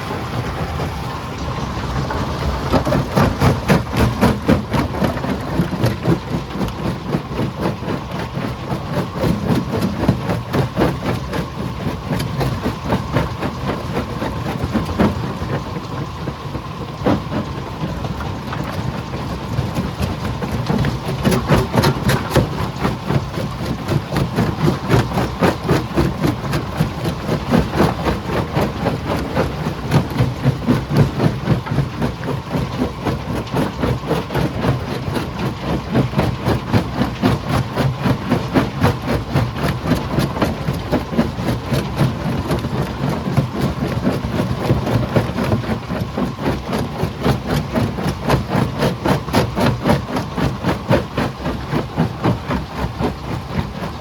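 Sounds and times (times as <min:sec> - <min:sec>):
engine drone: 0:00.0 - 0:54.0
rocks clattering in crusher: 0:00.0 - 0:54.0.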